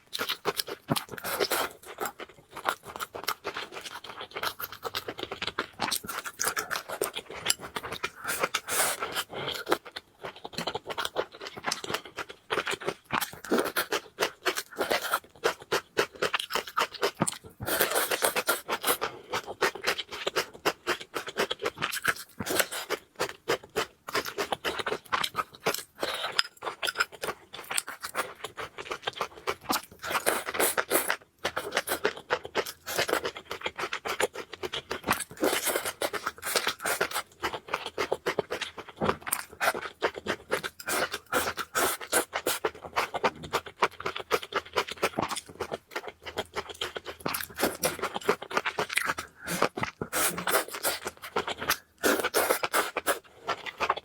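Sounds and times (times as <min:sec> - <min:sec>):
chewing clicks and scrapes: 0:00.1 - 0:54.0.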